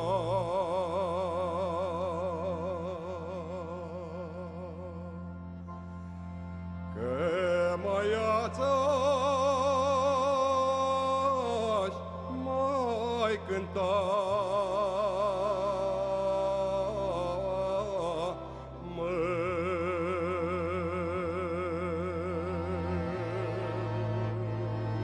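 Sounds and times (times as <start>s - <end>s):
folk melody with vibrato: 0.0s - 25.0s
steady bass accompaniment: 0.0s - 25.0s.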